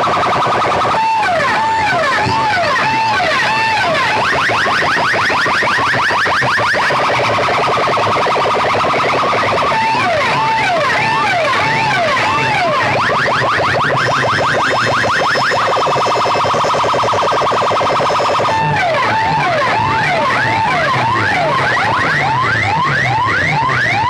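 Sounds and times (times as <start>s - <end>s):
electronic siren effects: 0.0s - 24.0s.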